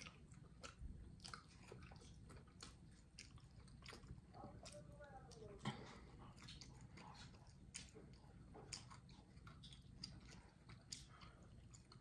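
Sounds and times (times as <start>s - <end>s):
person chewing ribs: 0.0s - 12.0s.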